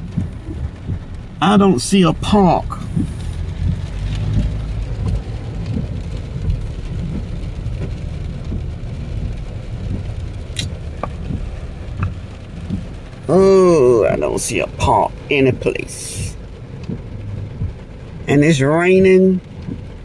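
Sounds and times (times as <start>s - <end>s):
car driving rumble: 0.0s - 20.0s
rain falling on a car: 0.0s - 20.0s.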